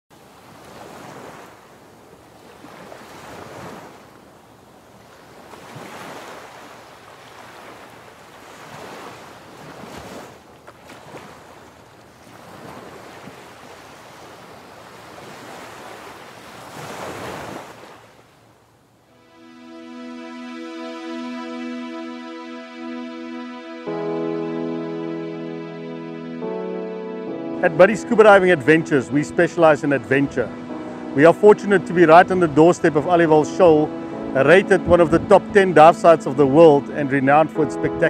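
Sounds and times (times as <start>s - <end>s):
ocean waves breaking: 0.2s - 18.4s, 19.1s - 38.0s.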